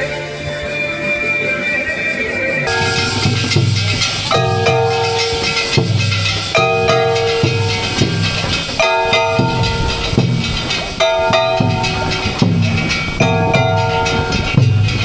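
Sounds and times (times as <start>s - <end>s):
low drum beats: 2.7s - 15.0s
ringing metallic strikes: 2.7s - 15.0s.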